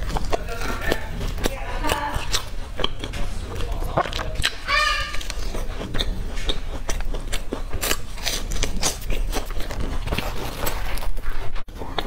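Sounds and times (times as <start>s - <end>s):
chewing soft bread: 0.0s - 12.0s.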